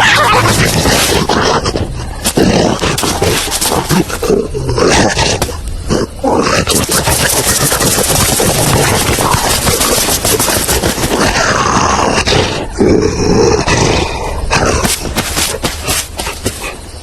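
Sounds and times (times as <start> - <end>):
crackling noise: 0.0 - 17.0.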